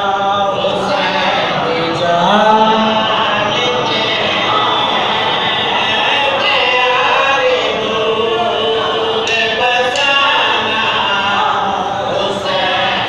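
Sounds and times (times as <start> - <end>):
men chanting: 0.0 - 13.0.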